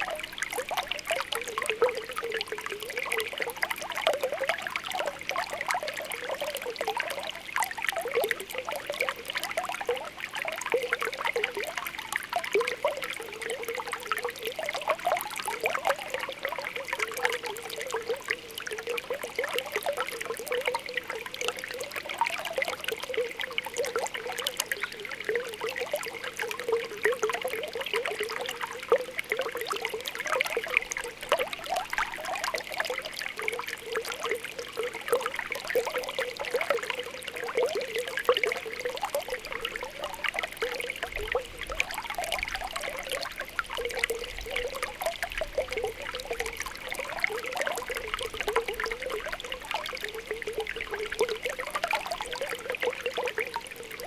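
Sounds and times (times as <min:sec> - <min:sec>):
spring water bubbling: 0:00.0 - 0:54.0
trickle of flowing water: 0:00.0 - 0:54.0.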